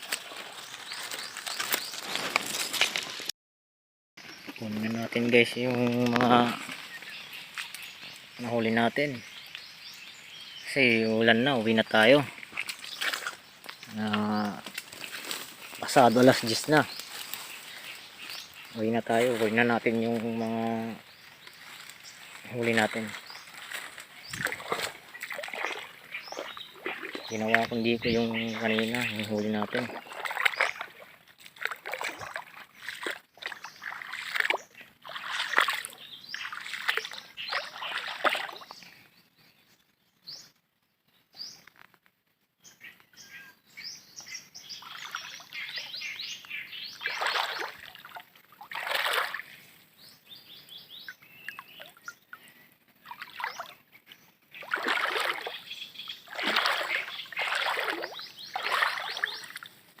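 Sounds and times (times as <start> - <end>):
water splashing and sloshing: 0.0 - 3.3, 4.2 - 8.4, 11.2 - 38.9, 44.7 - 49.8, 51.1 - 60.0.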